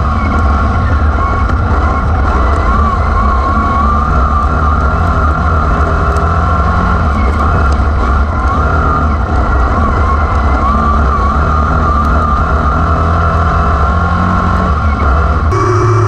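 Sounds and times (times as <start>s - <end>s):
race car engines rumbling: 0.0s - 16.0s.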